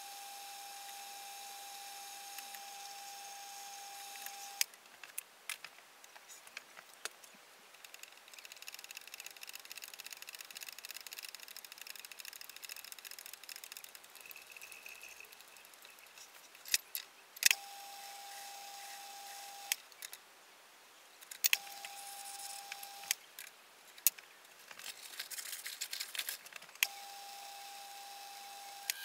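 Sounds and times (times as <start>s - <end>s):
faint steady whine: 0.0s - 29.0s.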